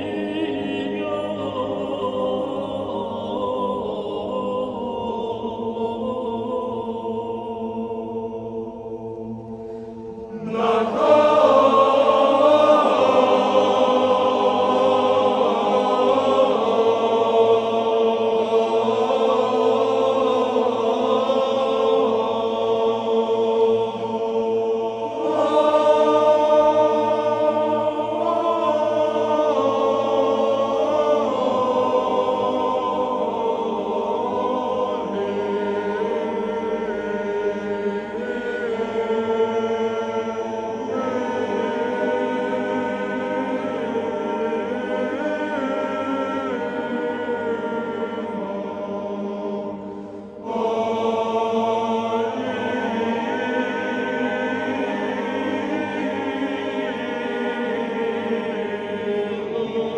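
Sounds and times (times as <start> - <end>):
choral chant: 0.0 - 59.9
sustained drone: 0.0 - 59.9.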